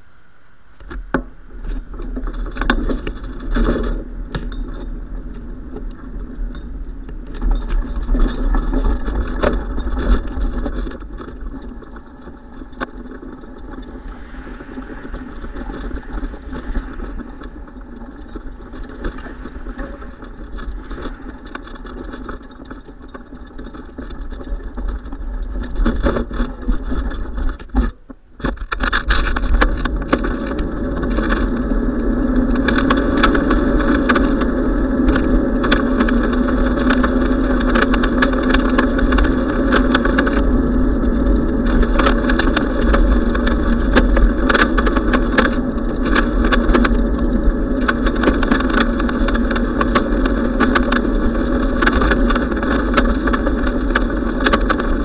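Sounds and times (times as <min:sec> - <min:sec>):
tyre and road noise: 0:00.0 - 0:55.0
wind rumbling on microphone: 0:00.0 - 0:55.0
bicycle rattles and knocks: 0:00.8 - 0:55.0.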